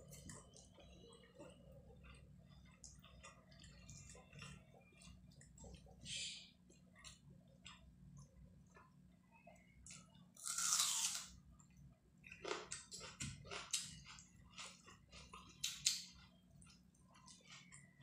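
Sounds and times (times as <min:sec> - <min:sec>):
chewing and mouth smacking: 0:00.0 - 0:06.0, 0:06.7 - 0:10.2, 0:11.6 - 0:18.0.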